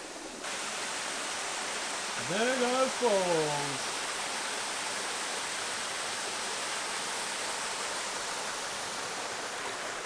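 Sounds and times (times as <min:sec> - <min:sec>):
small waterfall splashing: 0:00.0 - 0:10.0.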